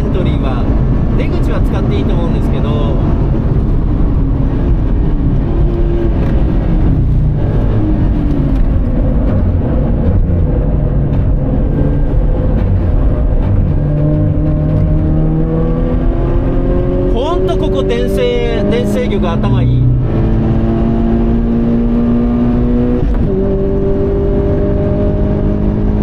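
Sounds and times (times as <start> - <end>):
car engine accelerating: 0.0 - 26.0
tyre and road noise: 0.0 - 26.0.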